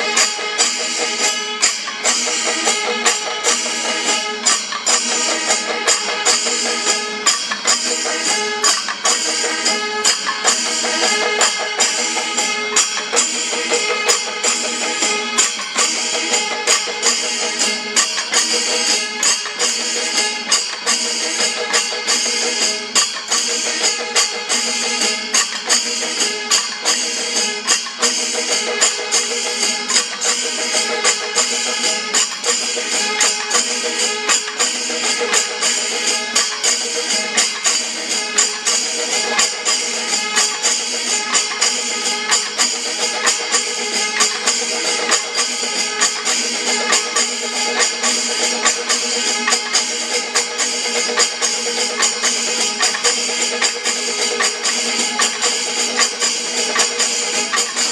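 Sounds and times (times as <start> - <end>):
cymbal clashes: 0.0 - 57.9
drum strokes: 0.0 - 57.9.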